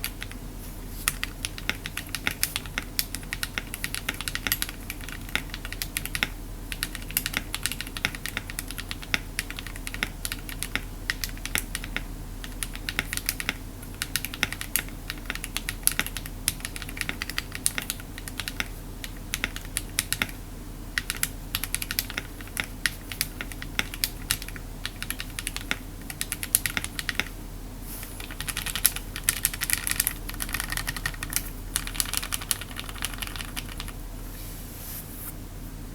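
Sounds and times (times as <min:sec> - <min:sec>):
typing on mechanical keyboard: 0:01.1 - 0:20.4, 0:21.0 - 0:27.3, 0:28.2 - 0:34.0.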